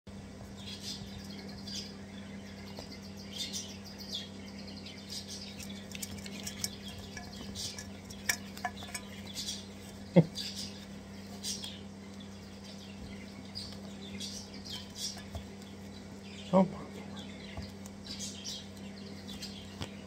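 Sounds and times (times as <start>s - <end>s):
faint steady hum: 0.1s - 20.0s
chicks squeaking and chirping: 0.4s - 20.0s.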